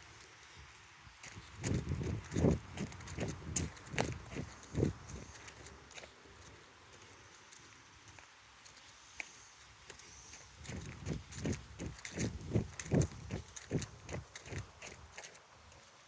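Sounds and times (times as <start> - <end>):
footsteps on a trail: 0.0 - 16.0.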